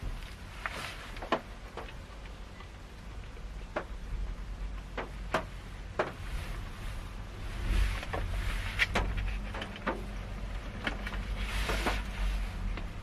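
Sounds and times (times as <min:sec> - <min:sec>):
rain drops tapping on car roof: 0:00.0 - 0:07.0, 0:07.8 - 0:13.0
steady low rumble: 0:00.0 - 0:13.0.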